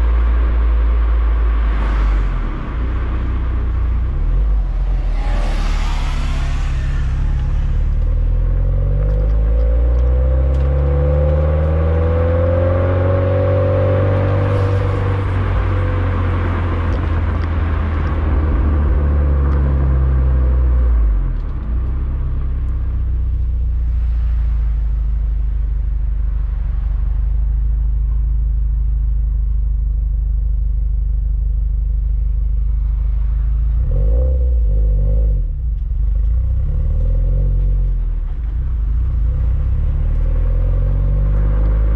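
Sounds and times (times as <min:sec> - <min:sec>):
car exhaust drone: 0:00.0 - 0:41.9.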